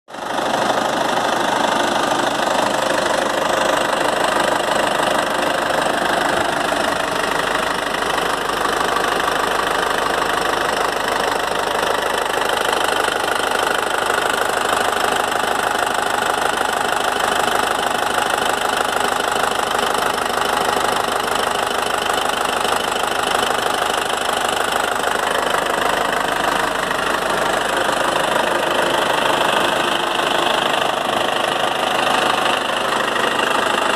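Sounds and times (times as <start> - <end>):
diesel engine running steadily: 0.1 - 33.9.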